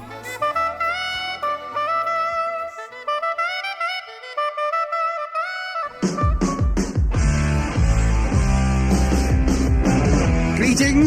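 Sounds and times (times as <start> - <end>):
saxophone melody with sliding notes: 0.0 - 10.0
backing band: 0.0 - 11.0.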